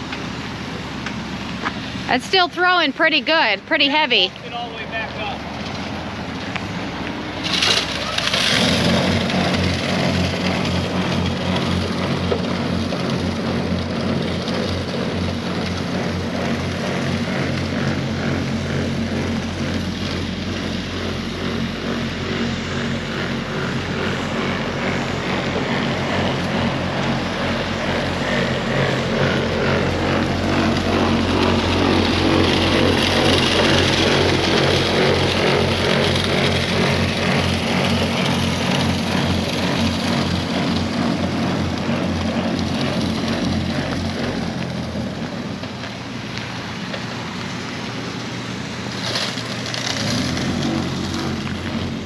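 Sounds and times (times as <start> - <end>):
truck engine and spreader drone: 0.0 - 52.0.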